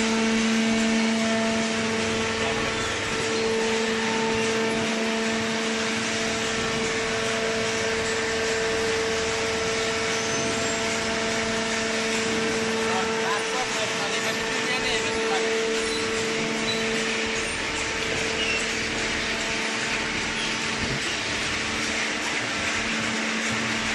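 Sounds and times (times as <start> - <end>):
hydraulic pump motor whining hum: 0.0 - 23.9.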